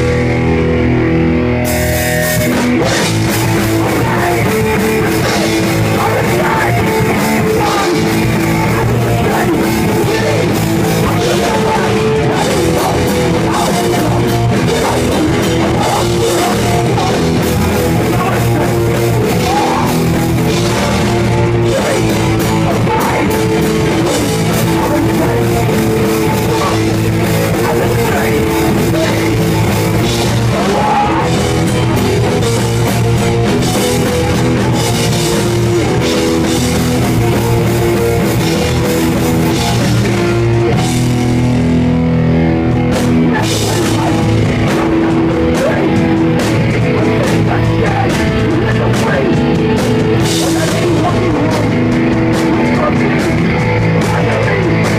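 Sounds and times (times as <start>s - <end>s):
distorted electric guitar: 0.0s - 54.9s
pounding drum kit: 0.0s - 54.9s.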